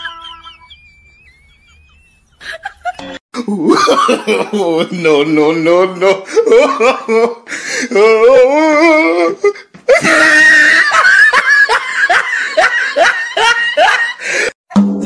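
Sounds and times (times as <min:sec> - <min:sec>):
person laughing loudly: 0:00.0 - 0:08.4, 0:09.9 - 0:14.5.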